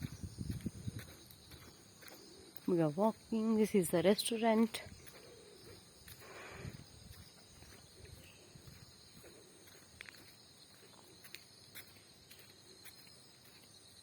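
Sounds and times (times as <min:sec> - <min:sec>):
insects chirring: 0:00.0 - 0:14.0
light footsteps: 0:00.0 - 0:14.0.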